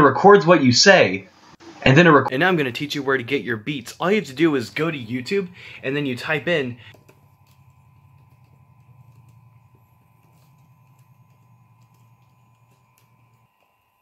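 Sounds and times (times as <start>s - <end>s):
steady low hum: 1.6s - 14.0s
laptop keyboard typing: 2.4s - 14.0s.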